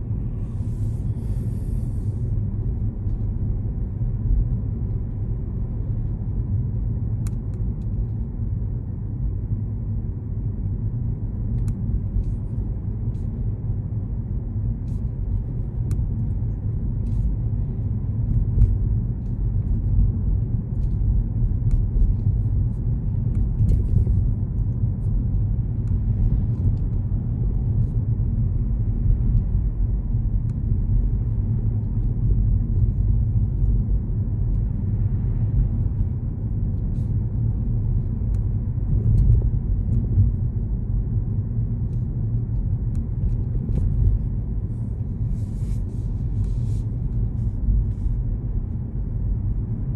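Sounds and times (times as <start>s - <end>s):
car driving rumble: 0.0s - 49.9s.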